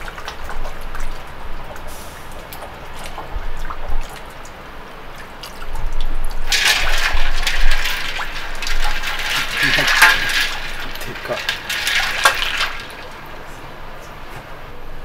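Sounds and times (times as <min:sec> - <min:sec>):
fish rubbed in water splashing: 0:00.0 - 0:13.3
water dripping in a pan: 0:00.0 - 0:13.4.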